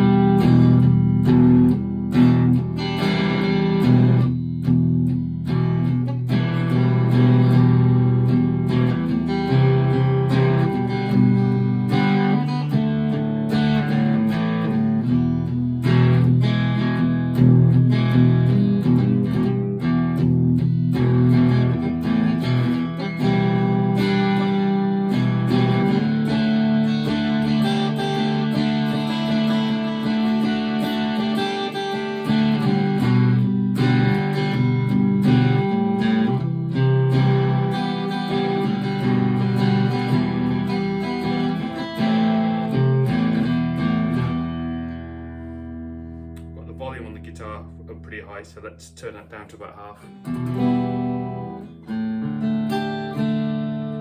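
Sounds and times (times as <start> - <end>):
acoustic guitar chords and picked notes: 0.0 - 54.0.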